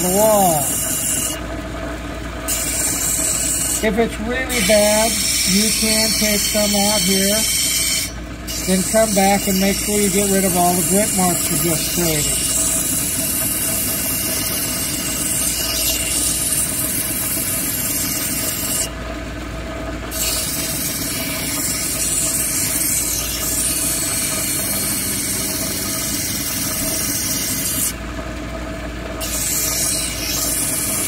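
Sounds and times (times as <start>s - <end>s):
stone grinding on wheel: 0.0s - 1.4s, 2.5s - 18.9s, 20.1s - 28.0s, 29.2s - 31.0s
grinding machine running: 0.0s - 31.0s.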